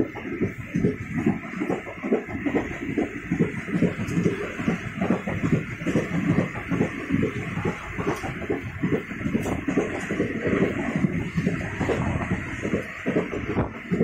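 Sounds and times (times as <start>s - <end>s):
train carriage rumble and clatter: 0.0s - 14.0s
wind buffeting microphone: 0.0s - 14.0s.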